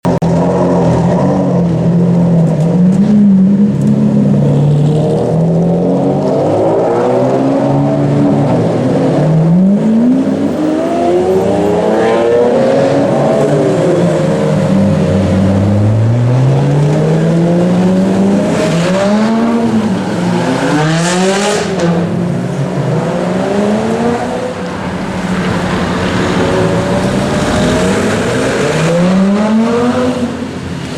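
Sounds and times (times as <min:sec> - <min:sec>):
sports car engines revving: 0:00.2 - 0:30.9.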